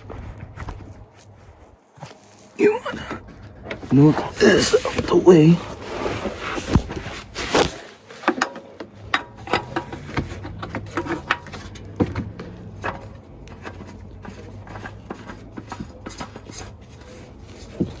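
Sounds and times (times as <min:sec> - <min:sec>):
hands handling oil filter: 0:02.0 - 0:18.0.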